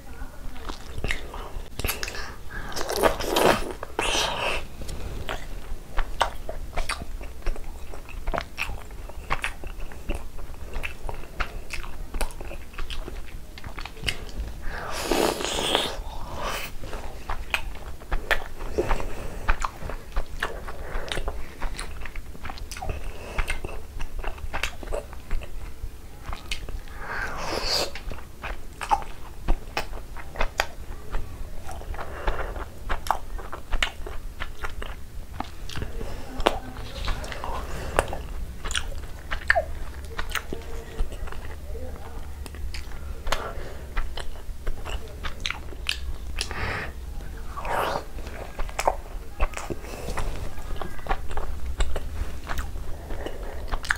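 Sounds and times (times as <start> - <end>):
person chewing wet food: 0.0 - 53.9.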